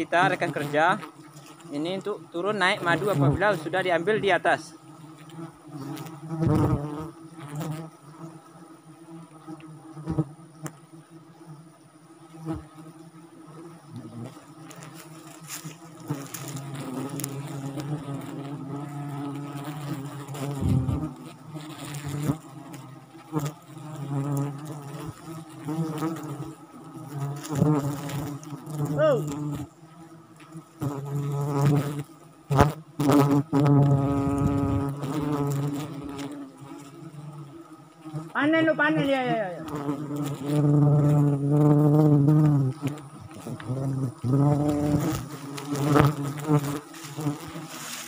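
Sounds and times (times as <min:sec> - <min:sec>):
bees buzzing in a swarm: 0:00.0 - 0:48.0
single bees passing by: 0:00.0 - 0:48.0.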